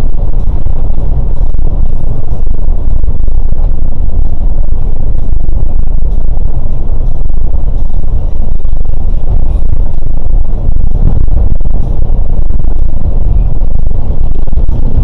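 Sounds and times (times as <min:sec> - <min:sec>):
coach engine and road rumble: 0:00.0 - 0:15.0.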